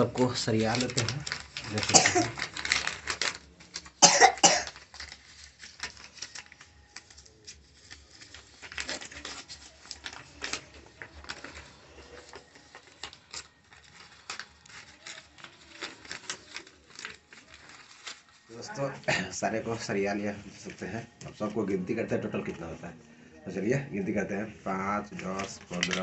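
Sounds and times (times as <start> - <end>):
banknotes rustling: 0.0 - 26.0.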